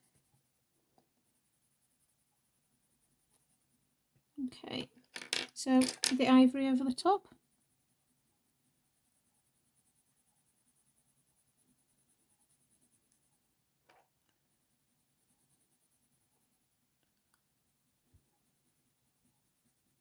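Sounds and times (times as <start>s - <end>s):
coloured pencil strokes on paper: 0.0s - 4.1s, 6.6s - 20.0s.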